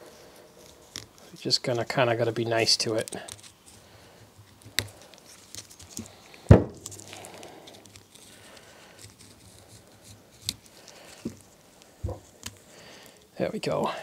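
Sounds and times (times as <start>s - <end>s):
cloth rustling: 0.0s - 13.3s.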